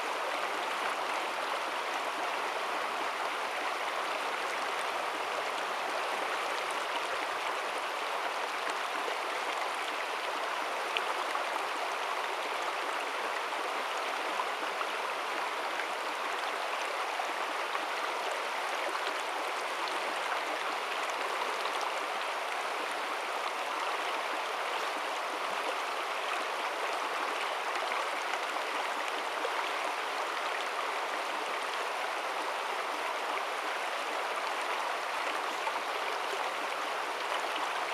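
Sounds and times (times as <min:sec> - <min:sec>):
river water babbling over stones: 0:00.0 - 0:37.9.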